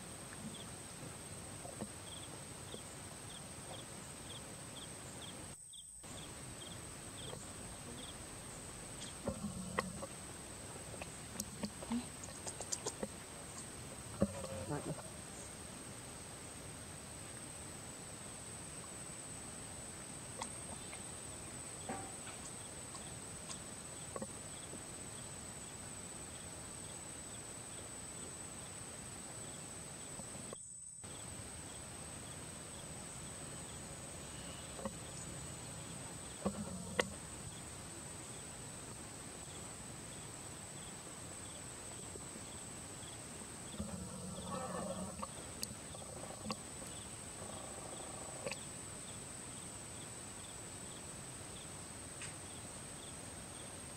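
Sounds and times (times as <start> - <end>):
high insect drone: 0.0 - 53.9
faint chirps: 0.3 - 15.9, 19.9 - 53.9.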